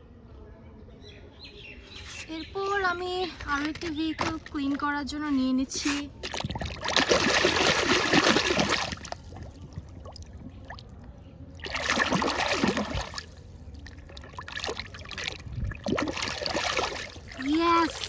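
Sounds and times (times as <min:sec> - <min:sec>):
water splashing and trickling: 0:01.9 - 0:18.0.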